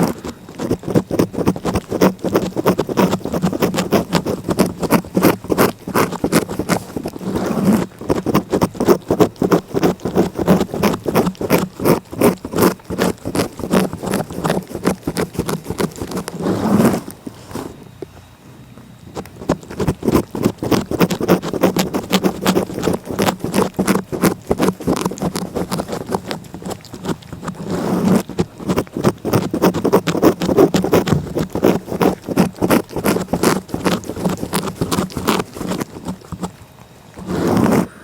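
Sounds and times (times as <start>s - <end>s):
cat licking: 0.0s - 17.8s, 18.8s - 38.0s.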